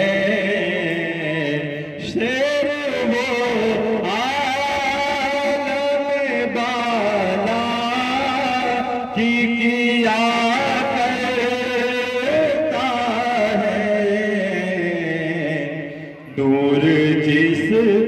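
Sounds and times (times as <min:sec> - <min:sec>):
person chanting: 0:00.0 - 0:18.0.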